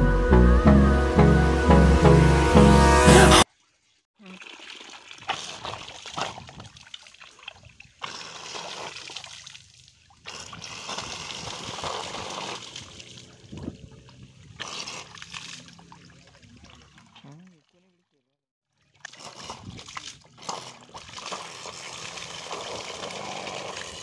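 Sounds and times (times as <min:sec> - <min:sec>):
water splashing on wet ground: 0:03.5 - 0:18.0, 0:18.7 - 0:24.0.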